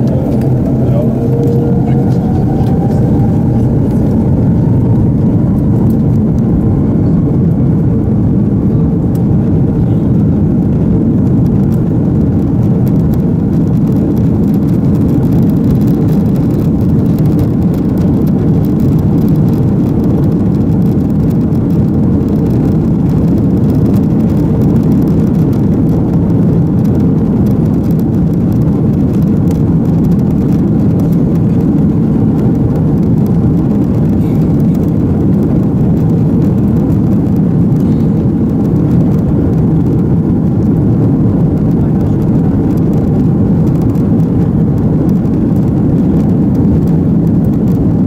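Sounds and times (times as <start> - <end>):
airplane cabin engine rumble: 0.0 - 48.0.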